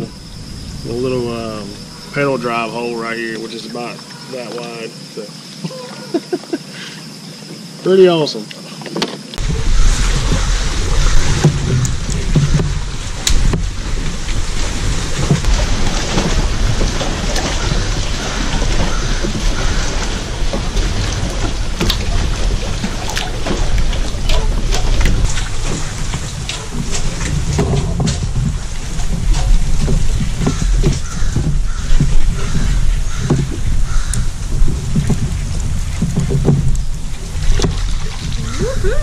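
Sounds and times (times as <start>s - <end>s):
wind buffeting microphone: 0.0s - 4.0s, 9.4s - 39.0s.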